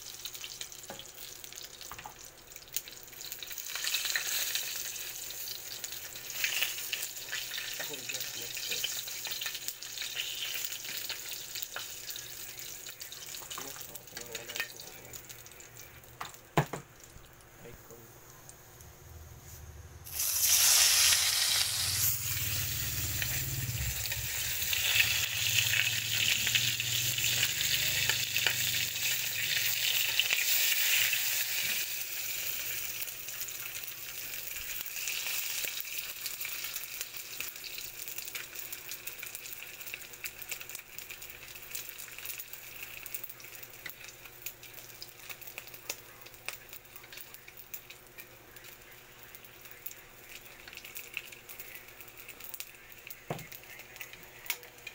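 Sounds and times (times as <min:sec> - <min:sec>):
fish frying in hot oil: 0:00.0 - 0:17.3, 0:20.1 - 0:54.9.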